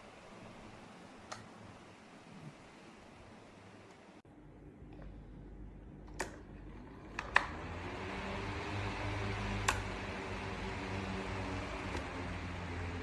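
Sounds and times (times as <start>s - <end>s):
fan motor hum: 0.0s - 13.0s.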